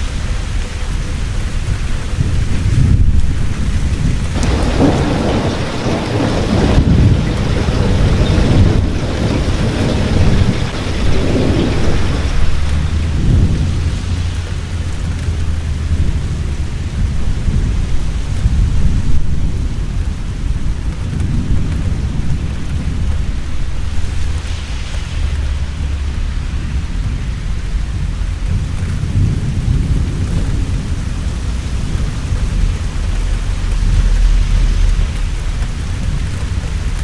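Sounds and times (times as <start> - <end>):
heavy rain: 0.0 - 37.0
rolling thunder: 0.0 - 37.0.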